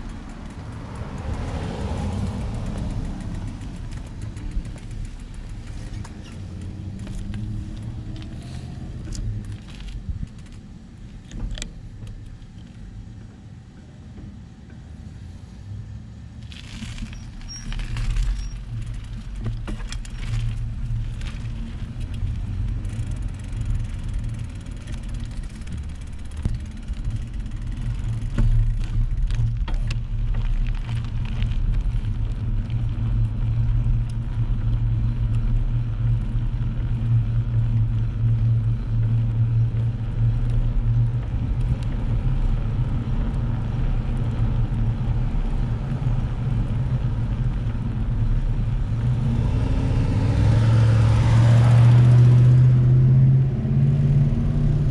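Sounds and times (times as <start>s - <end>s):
low rumble of riding: 0.0s - 54.9s.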